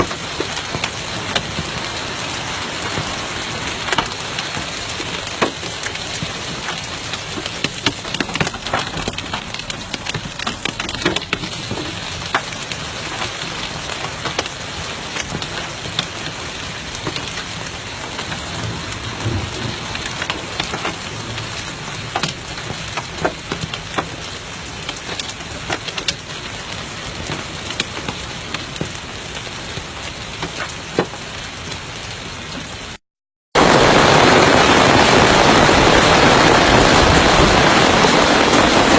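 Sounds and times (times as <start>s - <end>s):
heavy rain falling: 0.0s - 33.0s, 33.6s - 38.9s
rain ticking on hard surface: 0.0s - 33.0s, 33.6s - 38.9s.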